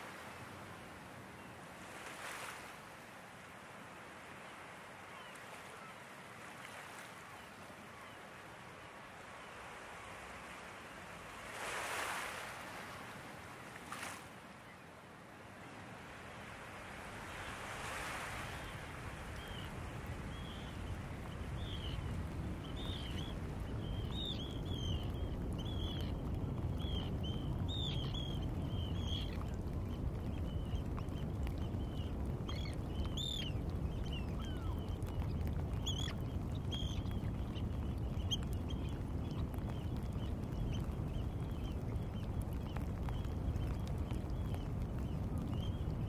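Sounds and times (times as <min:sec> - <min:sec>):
wind and water rush: 0:00.0 - 0:46.0.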